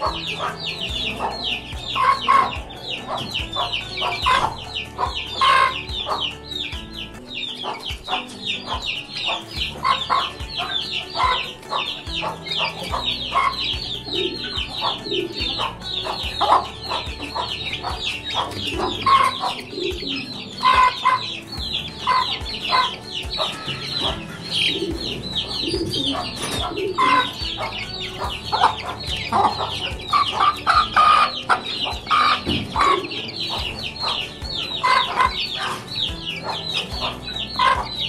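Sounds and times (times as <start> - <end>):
chicks peeping: 0.0 - 38.0
hen clucking: 0.0 - 38.0.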